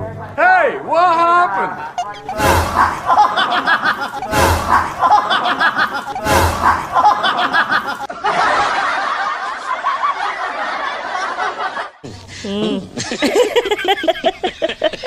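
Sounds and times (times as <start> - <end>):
snickering laughter: 1.8 - 15.0.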